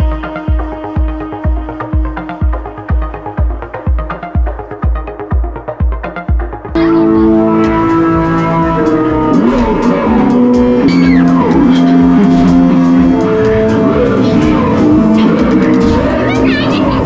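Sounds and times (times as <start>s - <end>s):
music with steady beat and chords: 0.0s - 17.0s.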